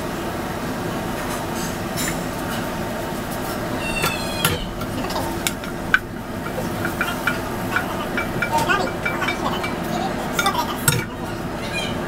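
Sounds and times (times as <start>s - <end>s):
rushing background noise: 0.1s - 12.0s
metal cookware clinking: 1.5s - 11.4s.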